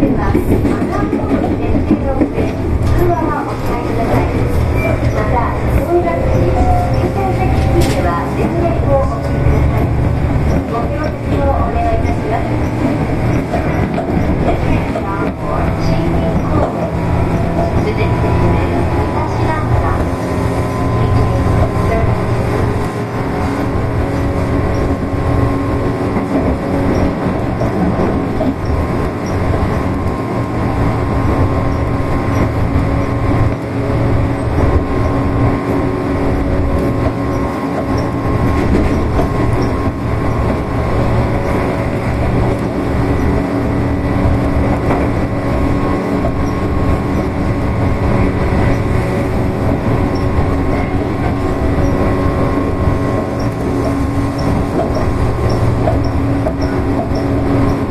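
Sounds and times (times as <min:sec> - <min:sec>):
electric train motor hum: 0:00.0 - 0:57.9
train rumble: 0:00.0 - 0:57.9
wheels clattering on rails: 0:00.0 - 0:57.9.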